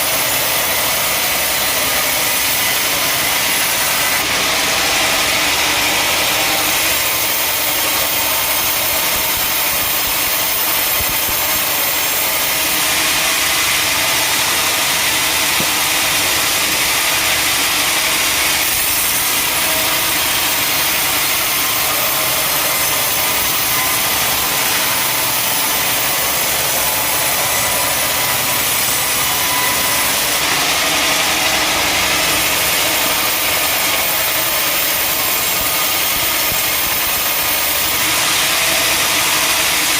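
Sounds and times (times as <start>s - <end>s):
machinery running: 0.0s - 39.9s
saw cutting wood: 0.0s - 39.9s.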